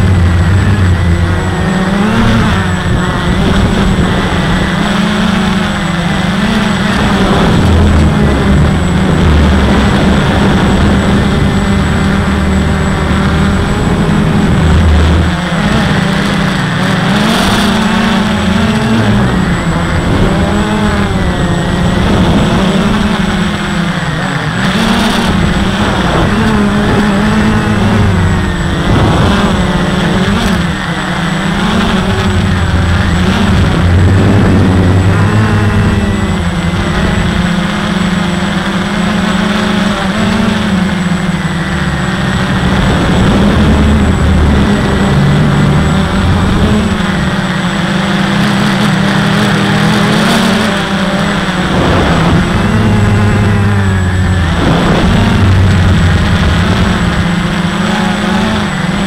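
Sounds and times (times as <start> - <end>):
drone motors buzzing: 0.0 - 59.0
thin high whine: 0.0 - 59.0.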